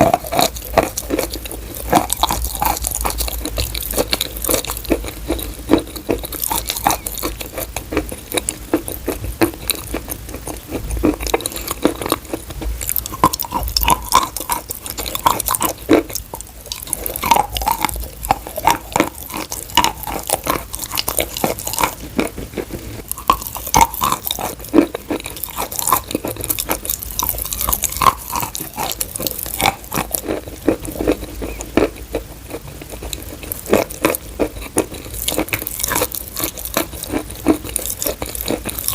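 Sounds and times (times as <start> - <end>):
chewing and crunching chalk: 0.0 - 38.9.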